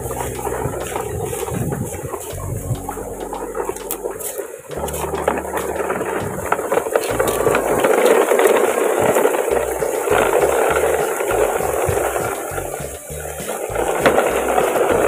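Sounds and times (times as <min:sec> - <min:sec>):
dry leaves crunching: 0:00.0 - 0:15.0
plastic toy trucks rattling: 0:00.0 - 0:15.0.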